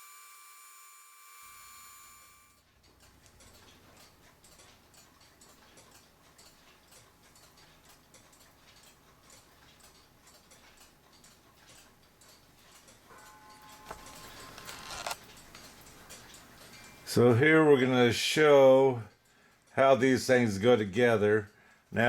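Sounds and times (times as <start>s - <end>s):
mechanical clock ticking: 2.6s - 22.0s.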